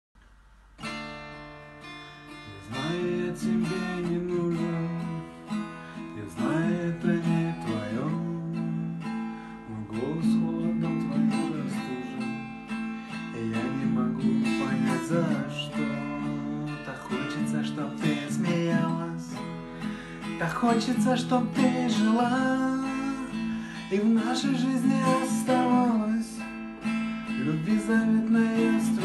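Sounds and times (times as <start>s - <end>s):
classical guitar strummed: 0.2s - 29.0s.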